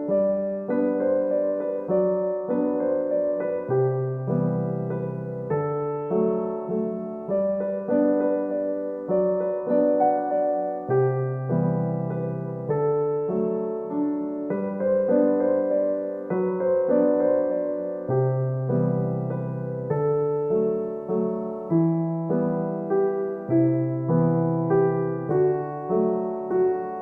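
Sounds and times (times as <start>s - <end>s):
gentle piano melody: 0.0s - 27.0s.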